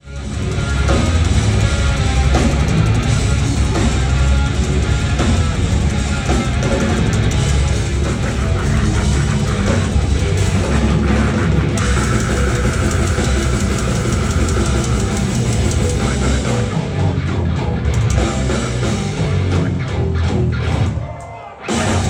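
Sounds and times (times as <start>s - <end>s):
distorted electric guitars: 0.0s - 22.0s
drum kit: 0.0s - 22.0s
heavy bass: 0.0s - 22.0s.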